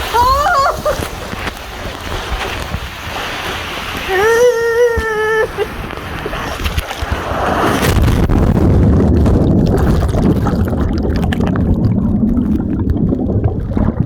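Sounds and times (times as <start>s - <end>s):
water churning with low rumble: 0.0s - 14.0s.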